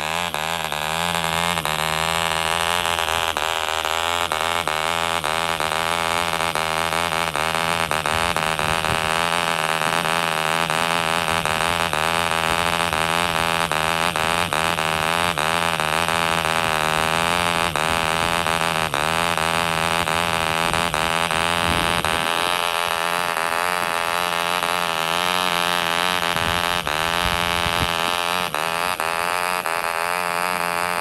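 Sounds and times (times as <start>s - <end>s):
model diesel engine running: 0.0s - 31.0s.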